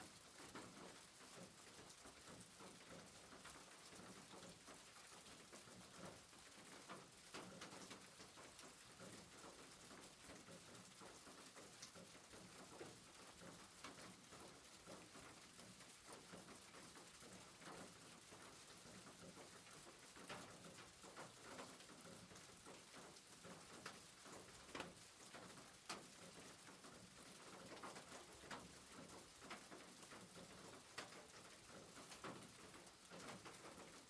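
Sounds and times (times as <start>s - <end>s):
faint rain on a rooftop: 0.0s - 34.0s.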